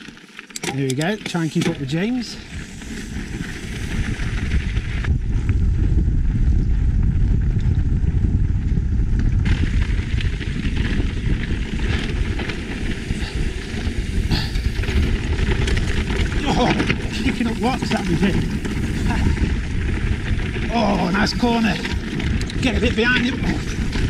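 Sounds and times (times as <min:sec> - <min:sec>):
tyres rolling over rocky trail: 0:00.0 - 0:06.2, 0:09.2 - 0:24.0
wind buffeting microphone: 0:01.1 - 0:24.0.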